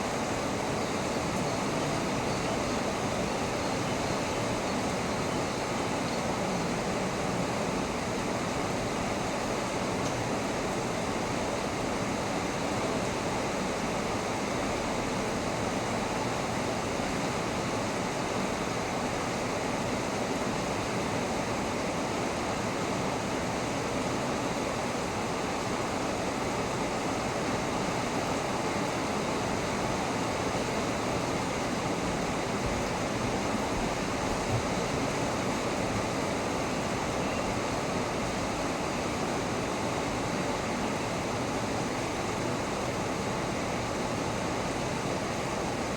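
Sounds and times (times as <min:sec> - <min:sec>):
heavy rain falling: 0:00.0 - 0:17.2, 0:24.6 - 0:45.9.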